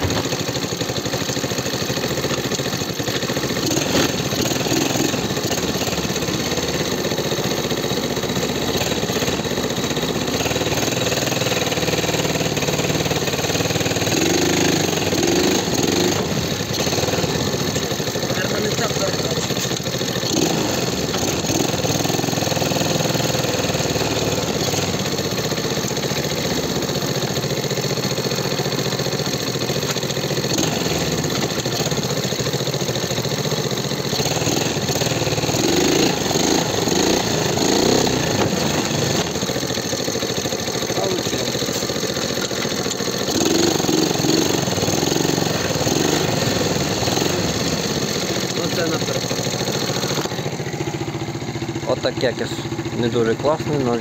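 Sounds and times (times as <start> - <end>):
small engine running and revving: 0.0 - 54.0.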